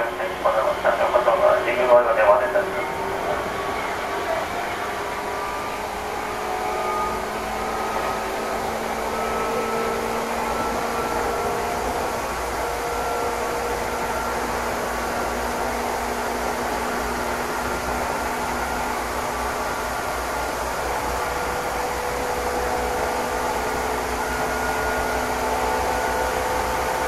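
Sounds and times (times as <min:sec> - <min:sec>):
faint rising whining tones: 0:00.0 - 0:27.0
train running noise from inside: 0:00.0 - 0:27.0.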